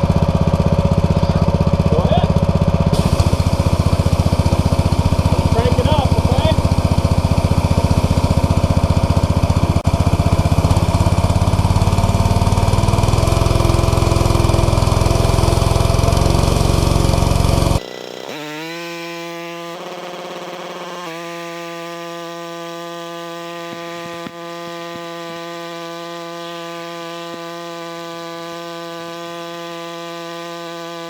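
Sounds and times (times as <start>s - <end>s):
pressure washer engine running: 0.0s - 31.0s.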